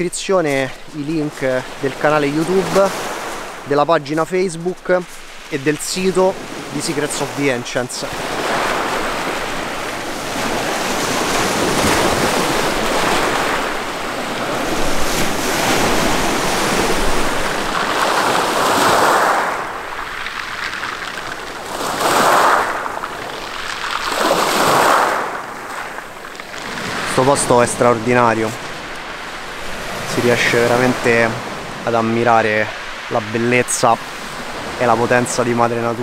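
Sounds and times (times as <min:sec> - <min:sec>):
waves breaking on pebble beach: 0:00.0 - 0:36.0.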